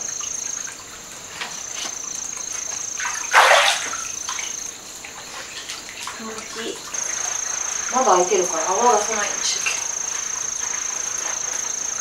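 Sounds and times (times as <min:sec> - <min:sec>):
insect trilling: 0:00.0 - 0:12.0
bathwater splashing: 0:01.3 - 0:12.0.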